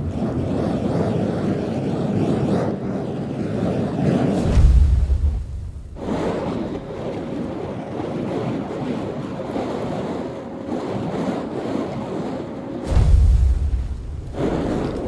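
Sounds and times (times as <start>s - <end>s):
whoosh of flame: 0.0s - 9.0s, 9.6s - 15.0s.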